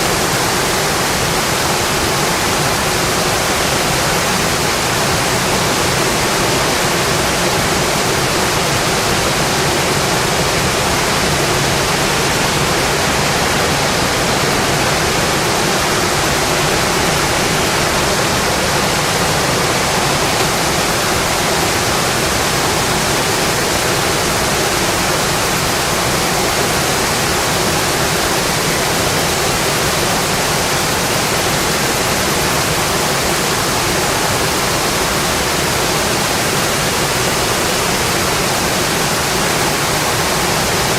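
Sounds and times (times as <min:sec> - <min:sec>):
rain on a windowpane: 0:00.0 - 0:40.9.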